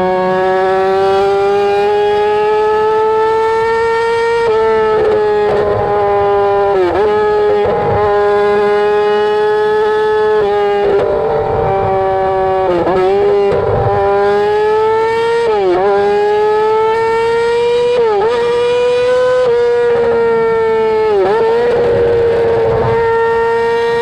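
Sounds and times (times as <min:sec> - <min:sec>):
motorcycle engine revving high: 0:00.0 - 0:24.0.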